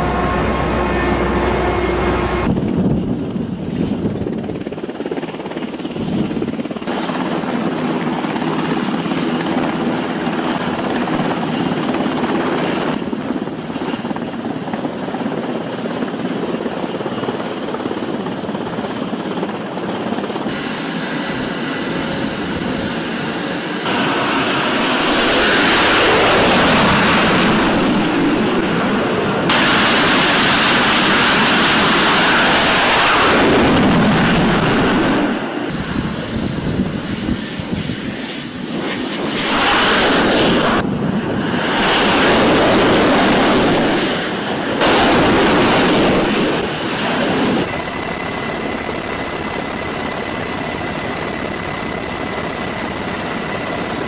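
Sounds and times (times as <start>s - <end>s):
aircraft noise: 0.0s - 54.0s
helicopter: 0.0s - 54.0s.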